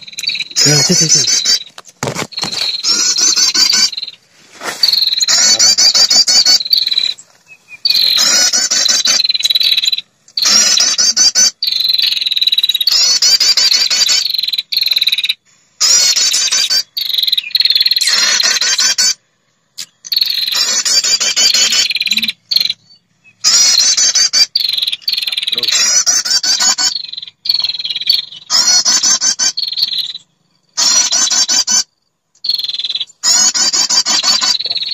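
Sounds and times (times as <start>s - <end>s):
warbler trilling call: 0.0s - 4.2s, 4.8s - 19.2s, 20.0s - 34.9s.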